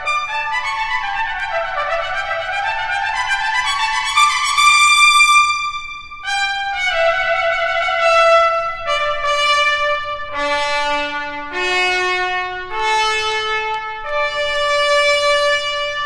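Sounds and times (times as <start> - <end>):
trumpet playing long notes: 0.0 - 16.0.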